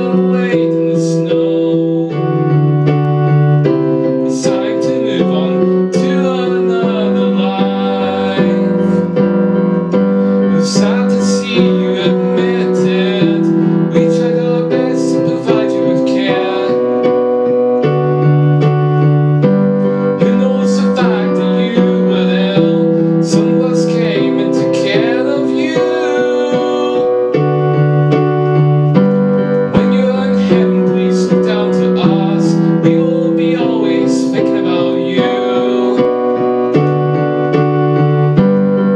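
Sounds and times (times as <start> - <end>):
digital piano playing: 0.0 - 38.9.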